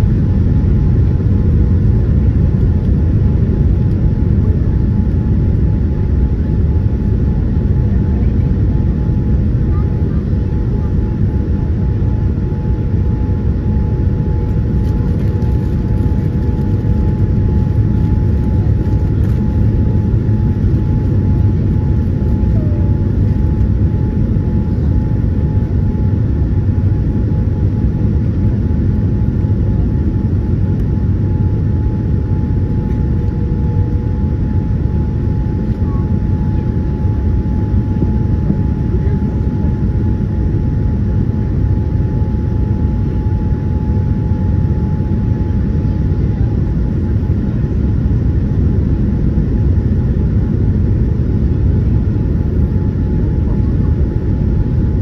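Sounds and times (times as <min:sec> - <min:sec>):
jet engine rumble: 0:00.0 - 0:55.0.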